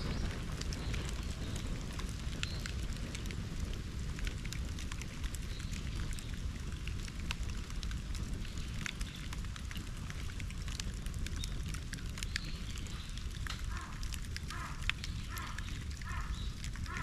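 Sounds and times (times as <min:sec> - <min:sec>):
bonfire crackling: 0:00.0 - 0:17.0.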